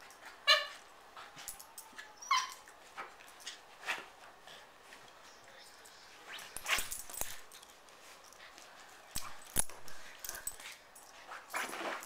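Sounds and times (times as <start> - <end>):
dogs scuffling and scrabbling: 0.0 - 12.0.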